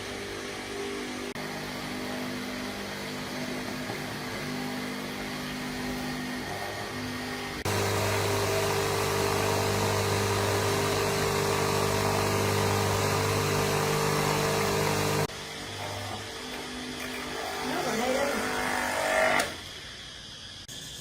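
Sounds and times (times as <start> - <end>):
electric water pump humming: 0.0 - 20.2.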